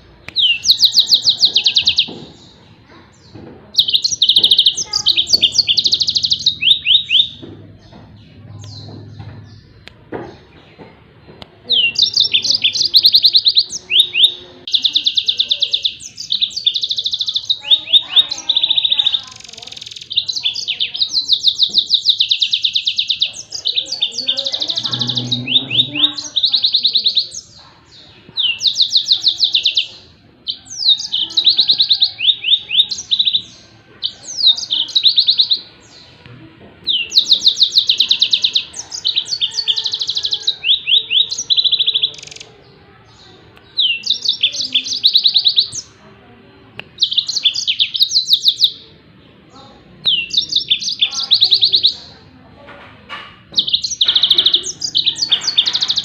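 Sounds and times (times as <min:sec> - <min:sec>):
canary singing fast trills: 0:00.0 - 0:10.5, 0:11.7 - 0:36.2, 0:36.8 - 0:46.0, 0:46.8 - 0:49.0, 0:49.9 - 0:52.3, 0:53.1 - 0:56.0.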